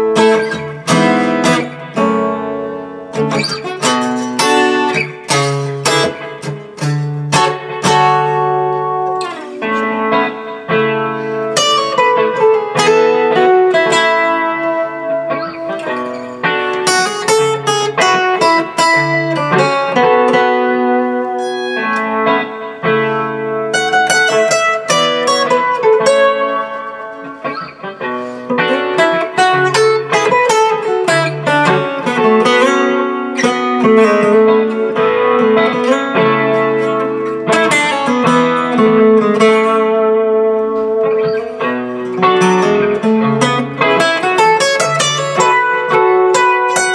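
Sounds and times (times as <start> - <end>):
acoustic guitar chords: 0.0 - 46.9
picked guitar single notes: 0.0 - 46.9.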